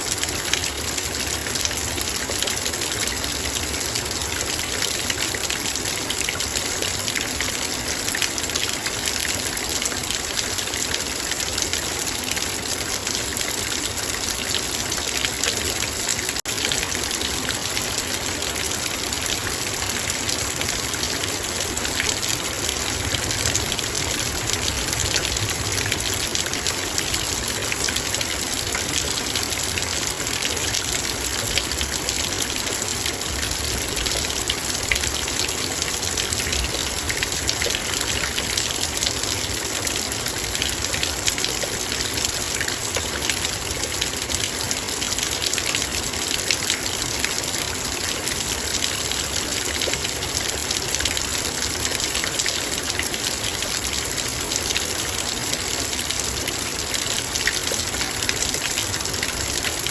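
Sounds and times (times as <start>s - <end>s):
heavy rain on a metal bowl: 0.0s - 59.9s.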